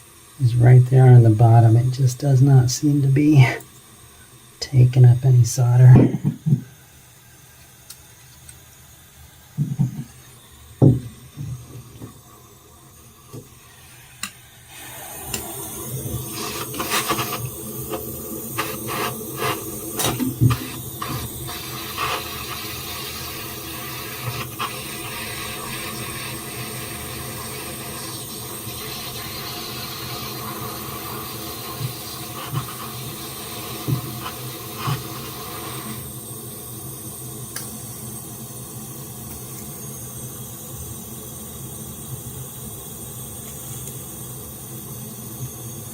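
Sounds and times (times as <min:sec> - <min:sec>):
soldering torch hissing: 0:00.0 - 0:45.9.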